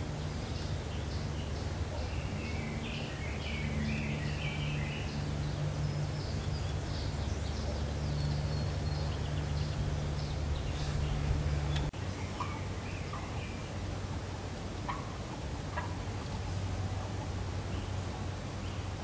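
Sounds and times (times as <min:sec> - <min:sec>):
songbirds chirping: 0:00.0 - 0:19.0
steady low hum: 0:00.0 - 0:19.0.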